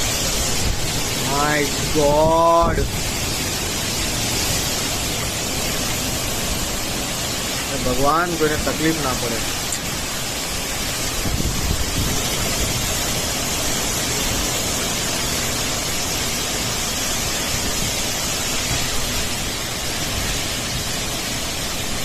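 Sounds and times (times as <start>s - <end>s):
heavy rain downpour: 0.0s - 22.0s
wind gusts on microphone: 0.0s - 22.0s.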